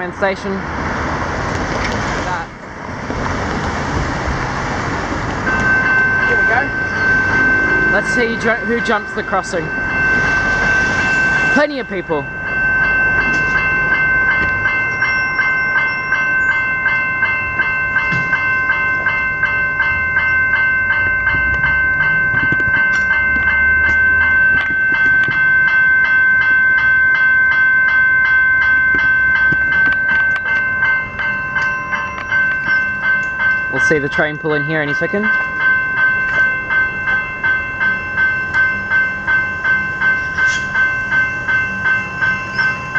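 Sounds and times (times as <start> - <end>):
level crossing bells ringing: 0.0 - 1.3, 4.3 - 42.9.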